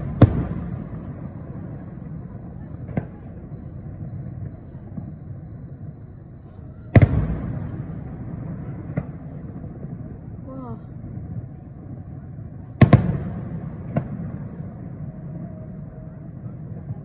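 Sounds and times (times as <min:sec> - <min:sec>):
firework bangs: 0:00.0 - 0:17.0.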